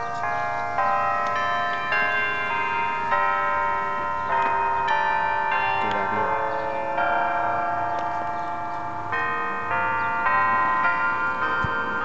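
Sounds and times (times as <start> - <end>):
church bells chiming: 0.0 - 12.0.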